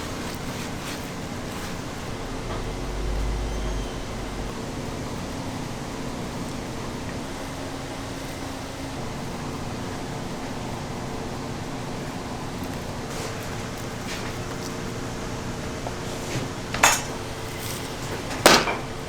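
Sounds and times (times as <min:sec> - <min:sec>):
faint hum: 0:00.0 - 0:19.0
fan-like machine whirring: 0:00.0 - 0:19.0.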